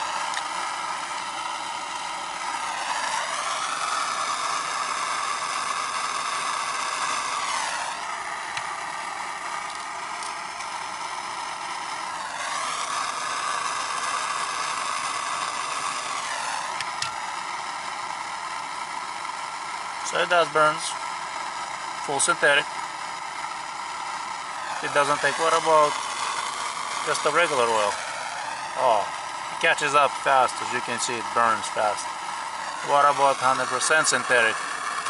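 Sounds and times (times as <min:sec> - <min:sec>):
gas torch flame hissing: 0:00.0 - 0:35.0.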